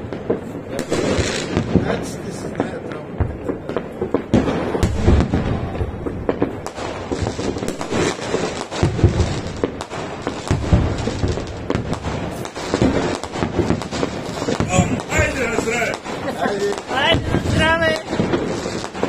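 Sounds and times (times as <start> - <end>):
fireworks bangs and crackles: 0.0 - 19.0
heavy fireworks booms: 0.0 - 19.0.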